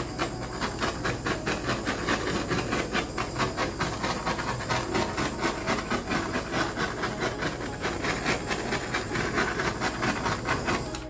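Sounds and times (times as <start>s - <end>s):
butane torch flame hissing: 0.0s - 11.0s.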